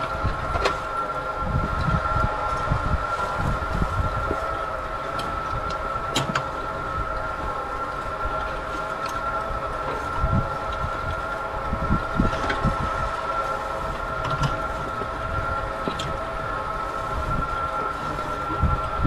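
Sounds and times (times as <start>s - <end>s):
high electric whine: 0.0s - 19.0s.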